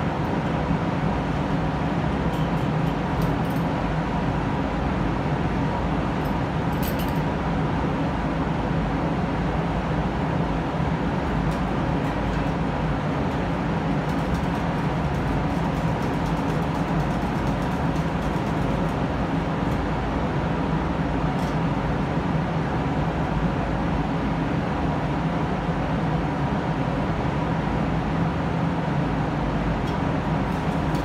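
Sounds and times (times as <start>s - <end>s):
ventilation fans humming: 0.0s - 31.0s.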